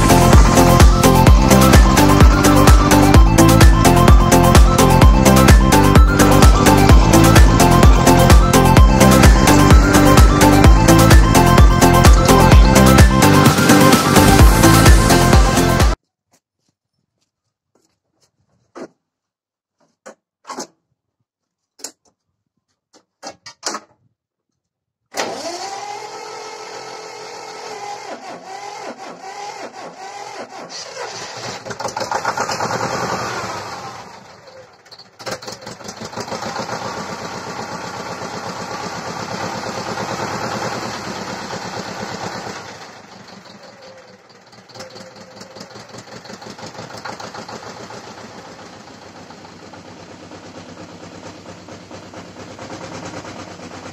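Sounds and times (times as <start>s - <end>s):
tractor diesel engine running: 0.0s - 16.0s, 25.2s - 53.9s.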